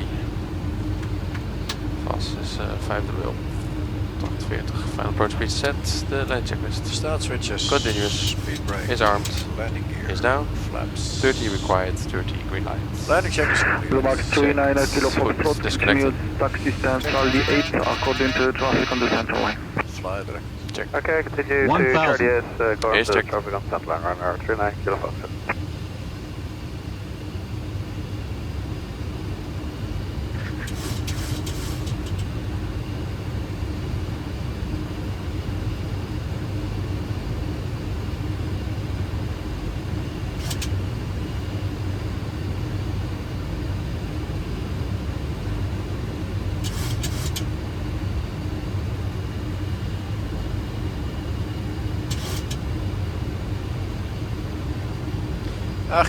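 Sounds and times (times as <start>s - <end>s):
airflow and engine rumble: 0.0s - 56.0s
steady hum: 0.0s - 56.0s.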